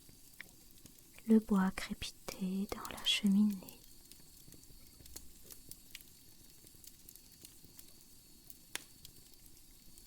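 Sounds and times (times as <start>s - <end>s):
wood fire crackling: 0.0s - 10.0s.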